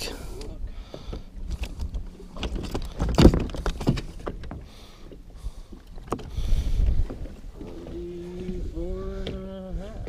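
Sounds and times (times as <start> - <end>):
low rumble of wind and water: 0.0 - 10.0.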